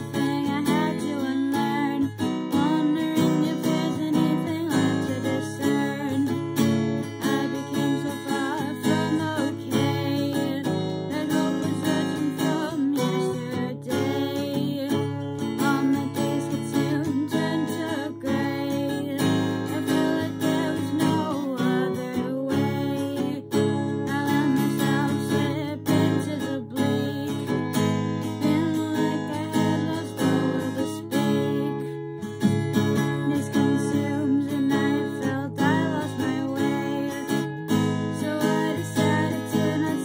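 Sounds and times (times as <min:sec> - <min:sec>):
acoustic guitar strummed: 0:00.0 - 0:40.0
person singing: 0:00.0 - 0:40.0.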